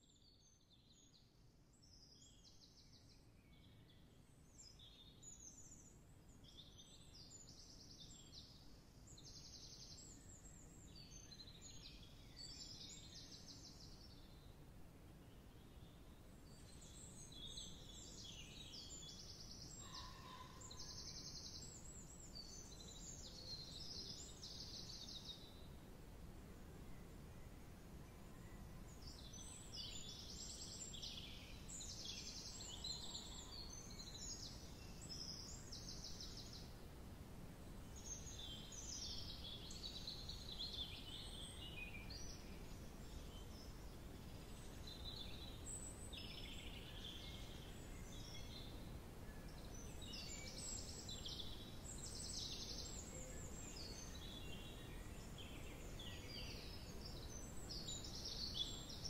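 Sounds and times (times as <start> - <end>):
songbirds trilling and warbling: 1.8 - 36.9, 37.8 - 59.0.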